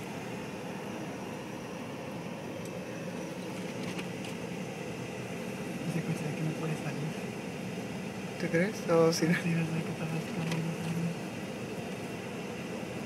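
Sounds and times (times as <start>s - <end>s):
car running inside cabin: 0.0s - 13.0s.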